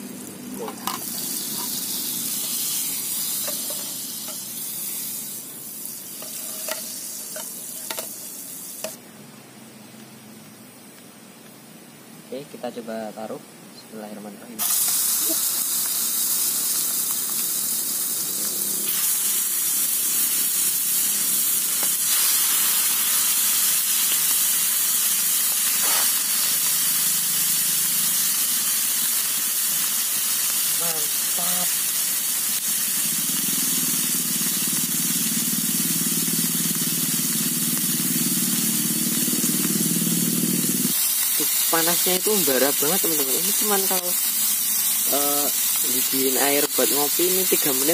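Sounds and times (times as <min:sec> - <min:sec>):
gas stove burner hissing: 0:00.0 - 0:09.0, 0:14.6 - 0:47.9
meat sizzling in butter: 0:00.0 - 0:09.0, 0:14.6 - 0:47.9.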